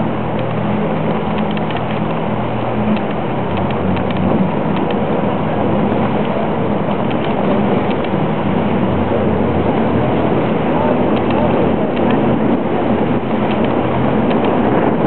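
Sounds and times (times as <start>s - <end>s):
boat engine humming: 0.0s - 15.0s
water rushing: 0.0s - 15.0s.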